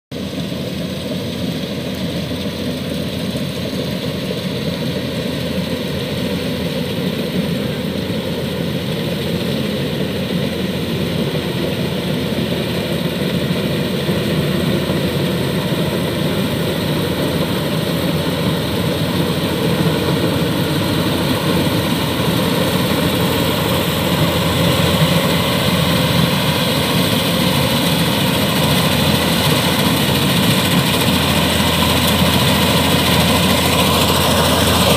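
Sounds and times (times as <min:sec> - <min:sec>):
combine harvester droning: 0:00.2 - 0:34.9.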